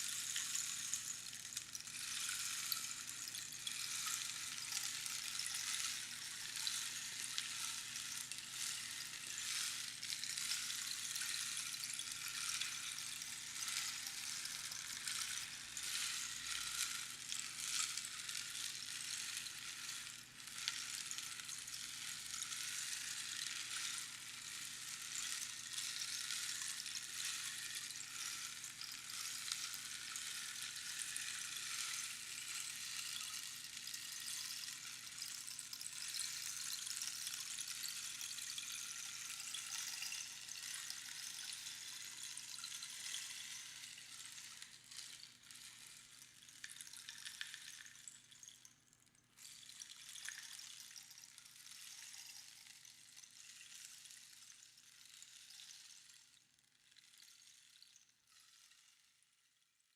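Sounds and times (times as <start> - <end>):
rainstick pebbles trickling: 0.0 - 59.7.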